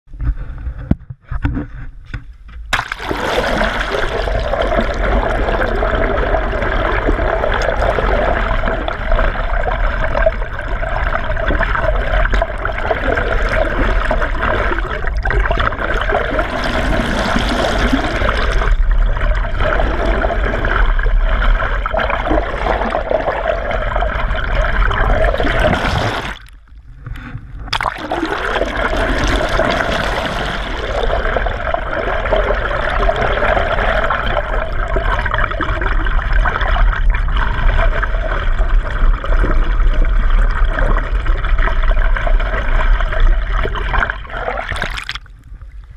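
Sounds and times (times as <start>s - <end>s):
muffled underwater churning: 2.7s - 45.9s.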